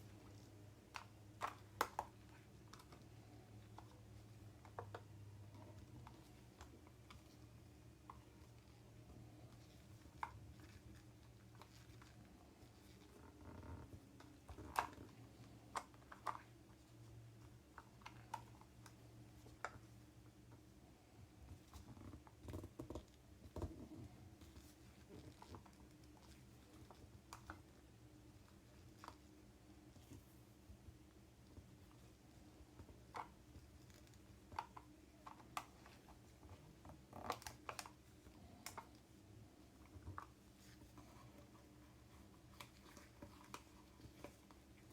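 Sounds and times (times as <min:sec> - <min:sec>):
hands handling crafting materials: 0:00.0 - 0:44.9.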